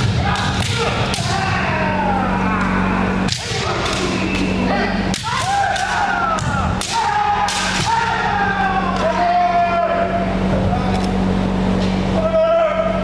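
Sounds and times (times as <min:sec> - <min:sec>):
people shouting: 0:00.0 - 0:10.4, 0:12.1 - 0:13.0.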